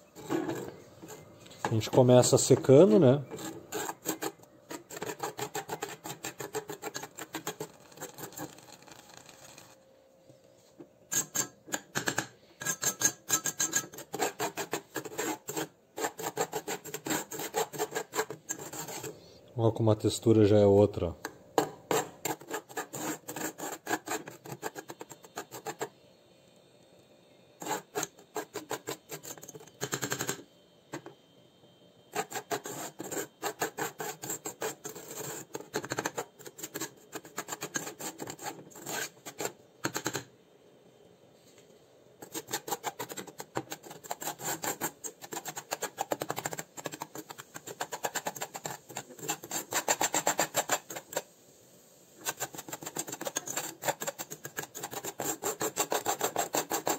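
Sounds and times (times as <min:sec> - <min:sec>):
metal spoon scraping soil in saucepan: 0:00.0 - 0:09.8, 0:11.1 - 0:11.9, 0:12.6 - 0:19.3, 0:21.8 - 0:25.9, 0:27.6 - 0:30.4, 0:32.1 - 0:40.2, 0:42.2 - 0:51.3, 0:52.2 - 0:56.9.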